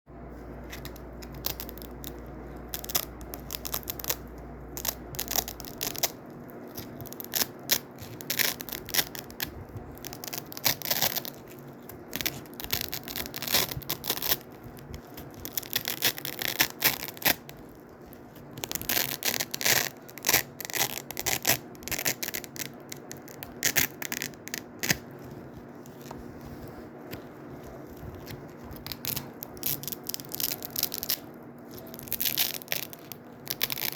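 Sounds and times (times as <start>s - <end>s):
hook-and-loop fastener ripping: 0.7s - 26.1s, 27.1s - 33.9s.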